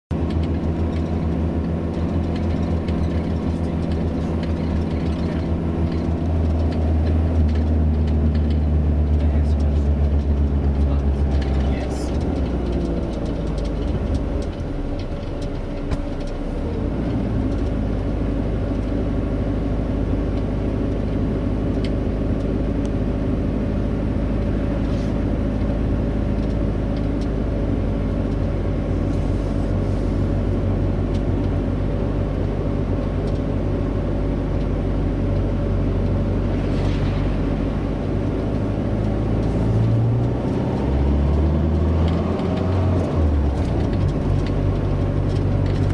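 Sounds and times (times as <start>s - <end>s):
heavy vehicle engine droning: 0.1s - 45.9s
road noise: 0.1s - 45.9s.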